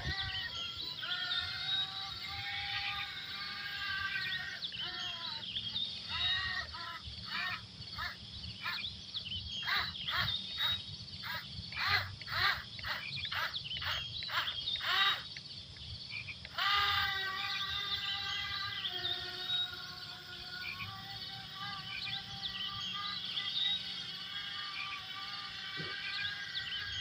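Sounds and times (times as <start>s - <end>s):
frogs croaking: 0.0s - 27.0s.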